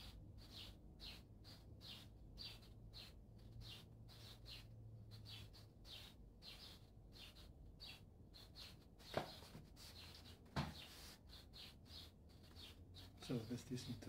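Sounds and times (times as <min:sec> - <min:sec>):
high bird chirps: 0:00.0 - 0:14.0.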